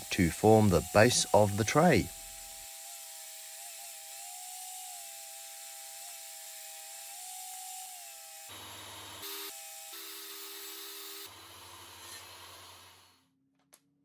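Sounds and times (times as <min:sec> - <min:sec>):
table saw cutting wood: 0:00.0 - 0:13.2.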